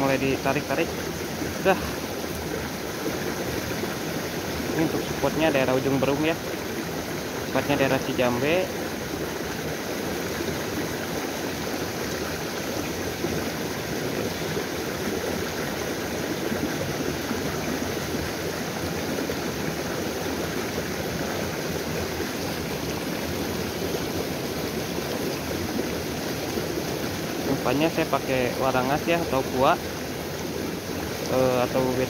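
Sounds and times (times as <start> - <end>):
stream splashing over rocks: 0.0 - 32.0.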